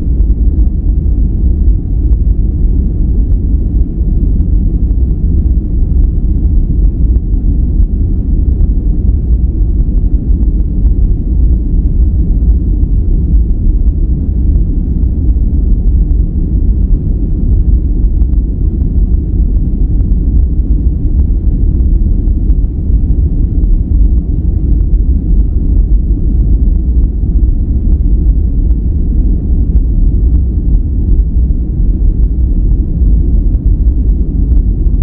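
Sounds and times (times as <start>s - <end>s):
deep rumbling noise: 0.0s - 35.0s.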